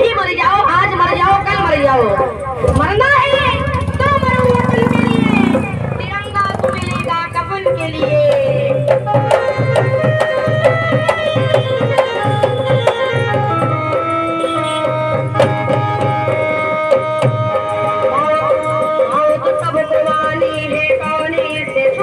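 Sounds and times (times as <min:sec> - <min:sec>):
held melody line: 0:00.0 - 0:22.0
hand drums playing quick rhythm: 0:01.0 - 0:22.0.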